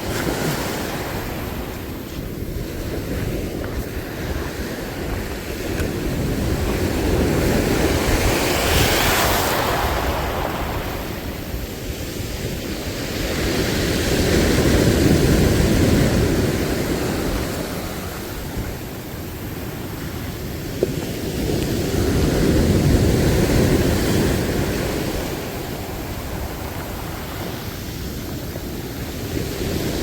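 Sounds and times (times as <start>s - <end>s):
sea waves washing in: 0.0s - 30.0s
wind rumbling on microphone: 0.0s - 30.0s.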